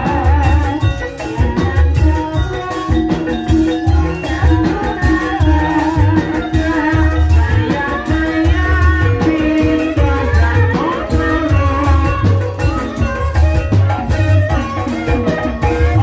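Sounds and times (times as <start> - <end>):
ringing metallophone notes: 0.0 - 16.0.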